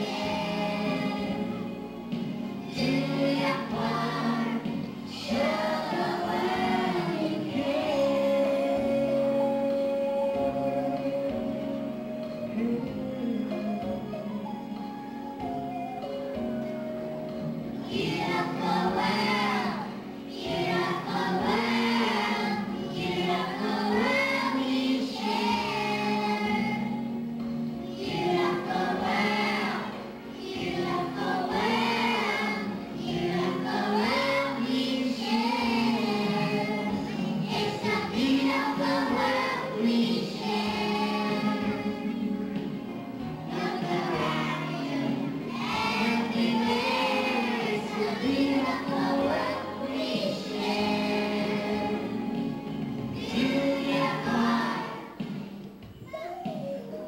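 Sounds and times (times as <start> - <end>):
children singing: 0.0 - 16.6, 17.2 - 56.9
instrumental accompaniment: 0.0 - 57.0.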